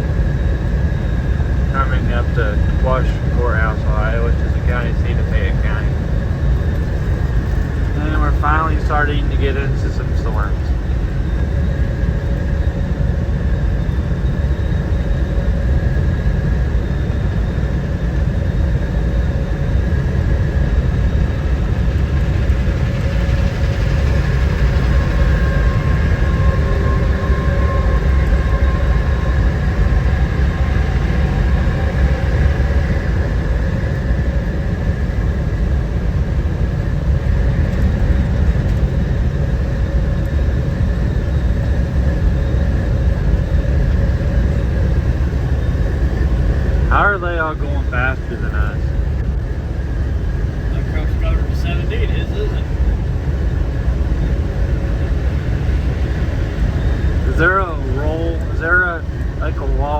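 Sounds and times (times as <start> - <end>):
car road and engine rumble: 10.0 - 59.9.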